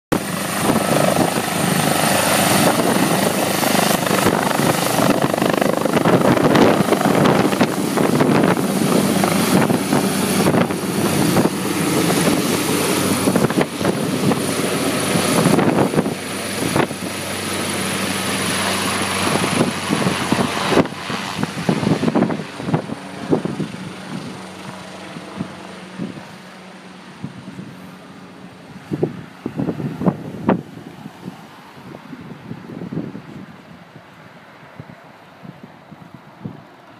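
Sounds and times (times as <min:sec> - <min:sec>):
helicopter running: 0:00.1 - 0:31.5.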